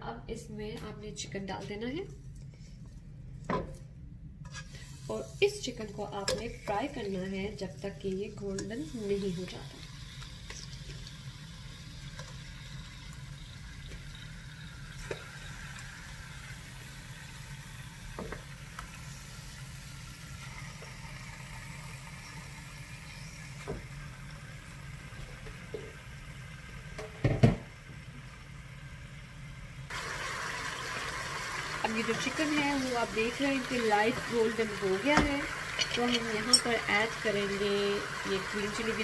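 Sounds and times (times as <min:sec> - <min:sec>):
chicken sizzling in hot oil: 0:04.5 - 0:39.0.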